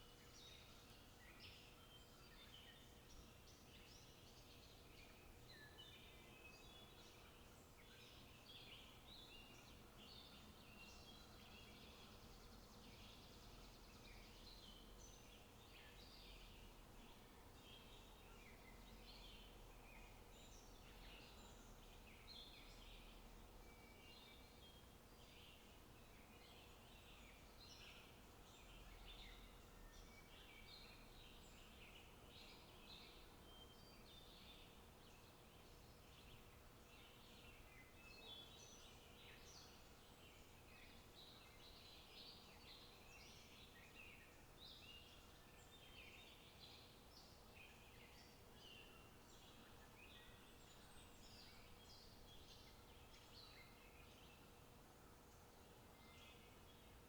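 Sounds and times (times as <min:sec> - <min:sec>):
low steady hiss: 0:00.0 - 0:57.0
small birds chirping: 0:00.0 - 0:57.0.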